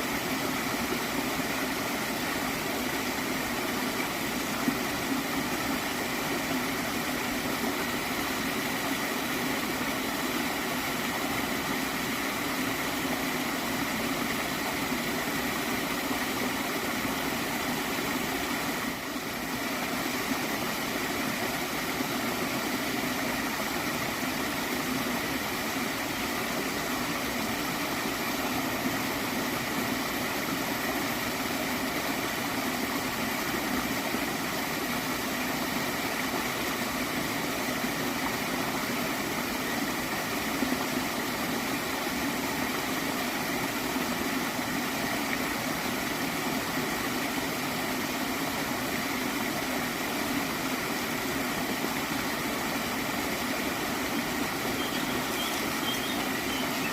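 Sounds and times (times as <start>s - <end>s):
stream flowing: 0.0s - 56.9s.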